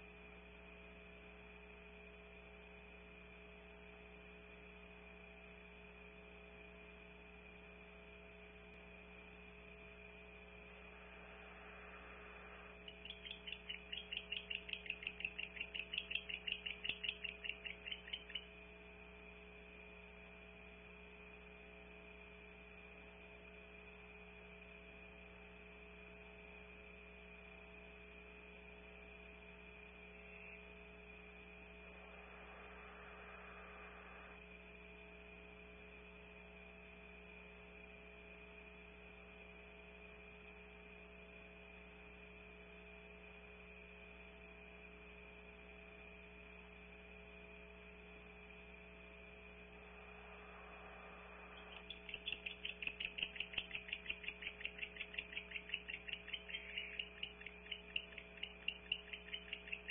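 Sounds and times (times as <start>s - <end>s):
electrical hum with high tone: 0.0s - 59.9s.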